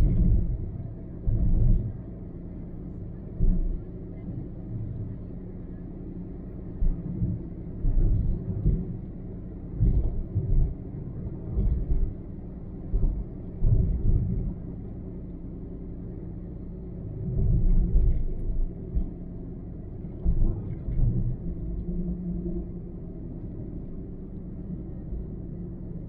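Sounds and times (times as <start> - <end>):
car driving on highway: 0.0 - 26.0.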